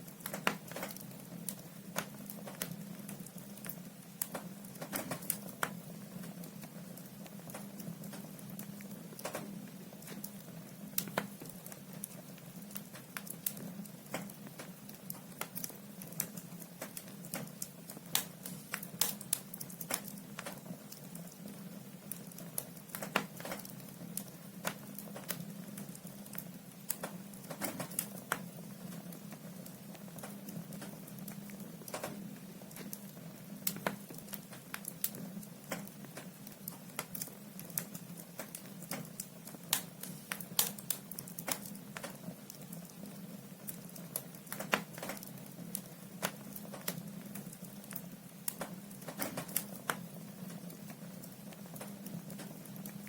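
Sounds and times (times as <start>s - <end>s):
firewood crackling and popping: 0.0s - 53.0s.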